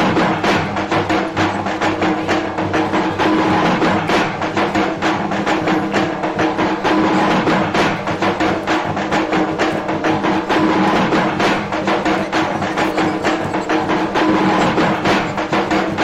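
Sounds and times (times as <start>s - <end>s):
dance music with fast drum beat: 0.0s - 16.0s.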